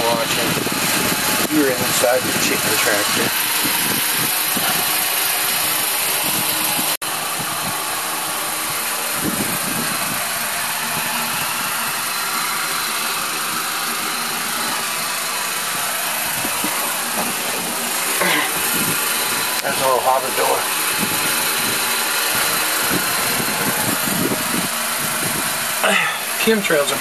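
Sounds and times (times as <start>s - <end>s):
electric fan running: 0.0s - 27.0s.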